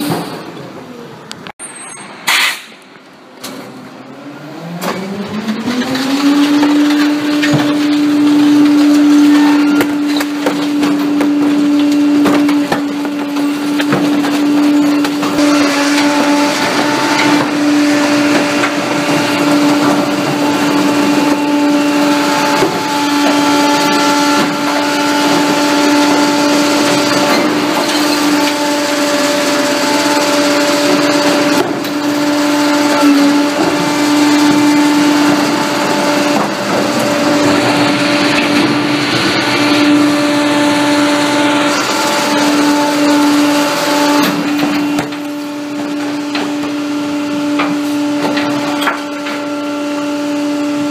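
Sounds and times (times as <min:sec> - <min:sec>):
hydraulics humming: 0:00.0 - 0:50.9
continuous clatter: 0:04.8 - 0:49.6.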